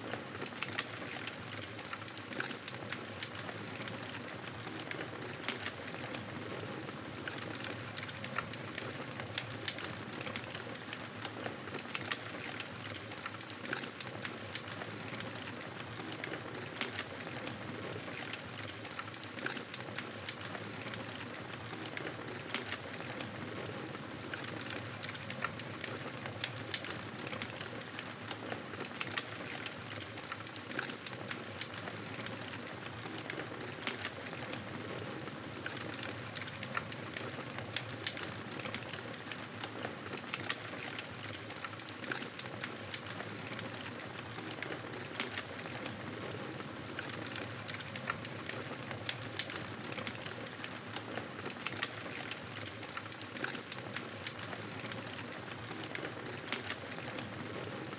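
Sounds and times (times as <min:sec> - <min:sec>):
fire crackling and popping: 0:00.0 - 0:57.9.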